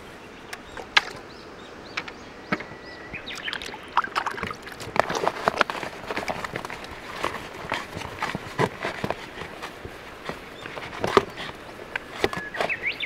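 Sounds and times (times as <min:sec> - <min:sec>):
small birds chirping: 0:00.0 - 0:04.6, 0:05.7 - 0:13.0.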